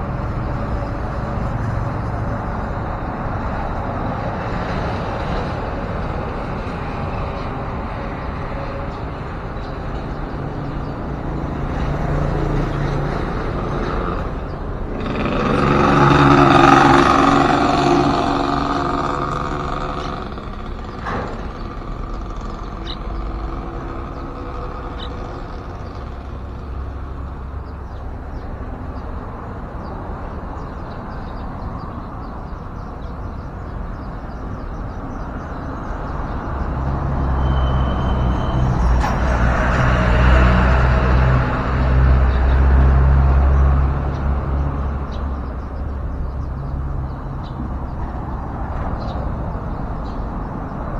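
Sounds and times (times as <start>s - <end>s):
heavy vehicle engine passing: 0.0s - 30.6s, 35.5s - 50.9s
traffic rumble: 0.0s - 50.9s.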